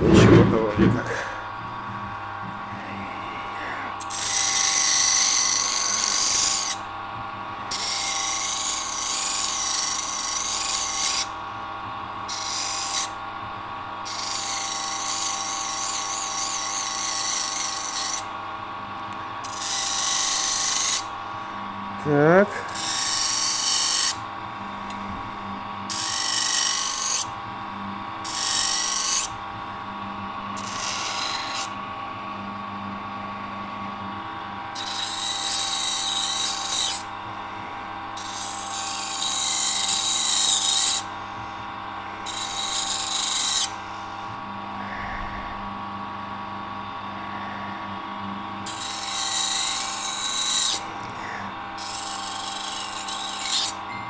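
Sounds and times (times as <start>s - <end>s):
grinder motor humming: 0.0s - 54.0s.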